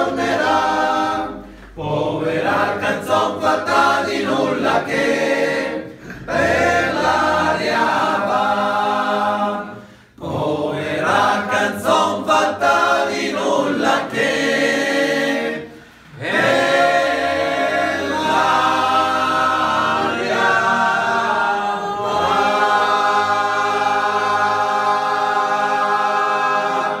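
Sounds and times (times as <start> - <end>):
group of men singing unaccompanied: 0.0 - 27.0.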